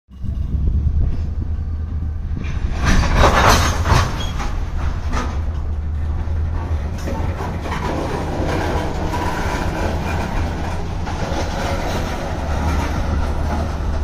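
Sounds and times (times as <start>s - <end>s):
freight train rumbling: 0.1s - 14.0s
train wheels clacking on rails: 0.2s - 14.0s.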